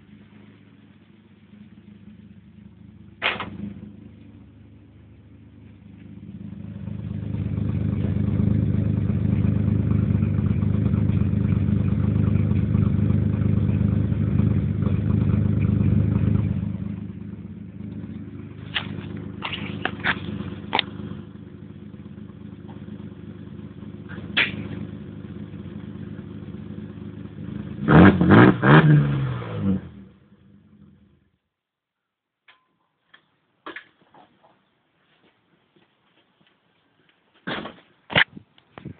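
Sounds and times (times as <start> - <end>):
car engine idling: 0.0 - 31.4.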